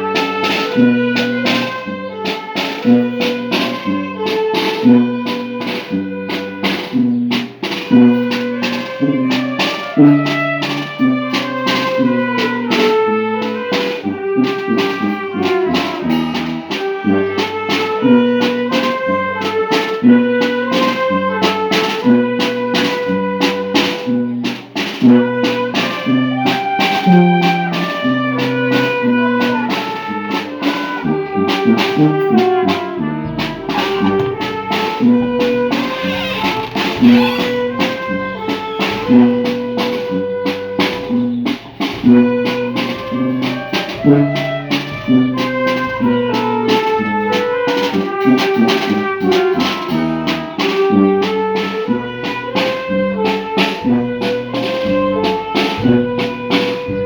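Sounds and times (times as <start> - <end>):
brass and saxophone melody: 0.0 - 57.0
drum kit steady beat: 0.0 - 57.0.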